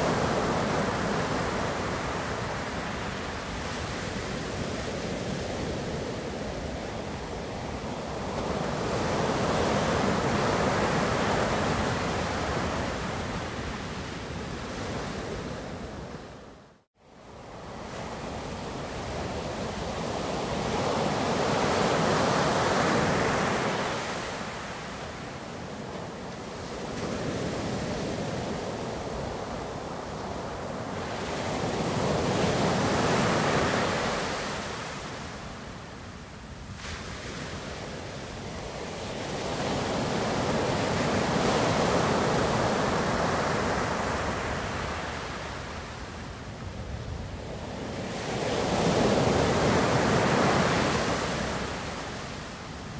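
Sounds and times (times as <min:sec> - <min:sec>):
waves washing in: 0:00.0 - 0:16.6, 0:17.2 - 0:52.9.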